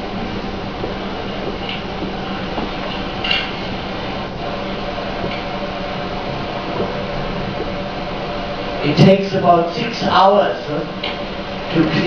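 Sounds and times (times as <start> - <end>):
room hiss with low hum: 0.0 - 12.0.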